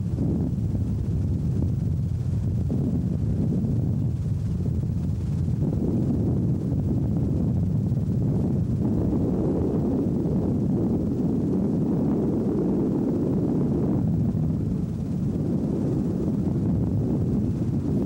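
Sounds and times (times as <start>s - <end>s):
helicopter engine and rotor rumble: 0.0s - 18.0s.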